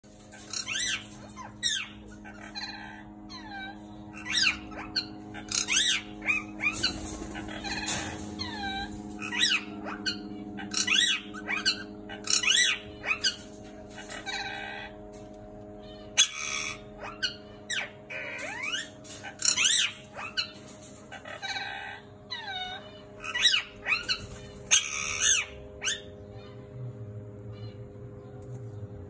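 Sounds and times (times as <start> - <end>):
parrots chirping: 0.0 - 26.7
steady low hum: 0.0 - 29.0.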